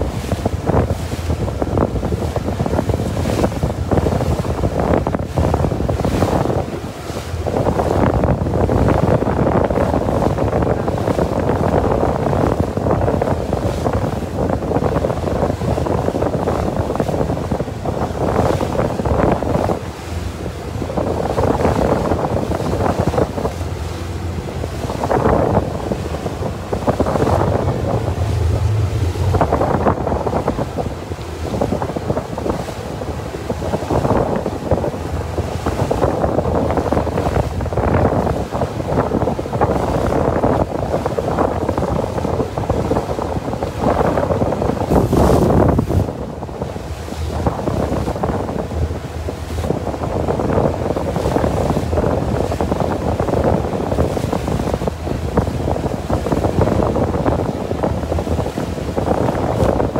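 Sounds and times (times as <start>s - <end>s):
boat motor hum: 0.0s - 59.9s
water rushing and splashing: 0.0s - 59.9s
wind buffeting microphone: 0.0s - 59.9s.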